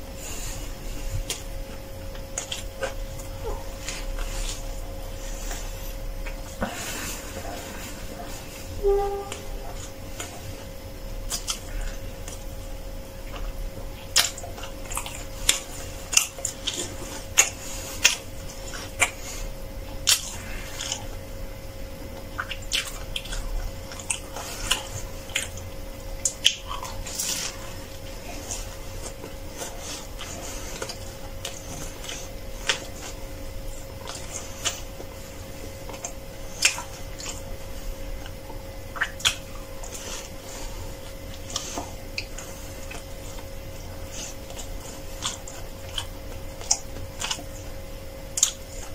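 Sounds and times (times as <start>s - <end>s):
biting and chewing crunchy bread: 0.0s - 8.8s, 9.6s - 48.9s.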